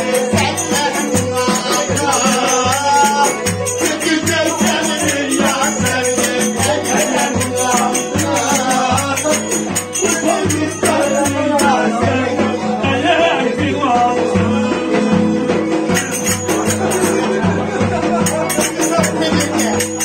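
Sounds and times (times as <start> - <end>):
quick rattling percussion: 0.0 - 12.2, 15.0 - 20.0.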